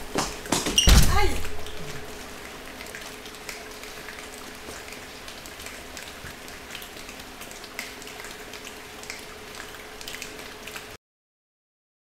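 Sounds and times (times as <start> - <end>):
faint steady hum: 0.0 - 11.0
rain hiss with drop ticks: 0.0 - 11.0.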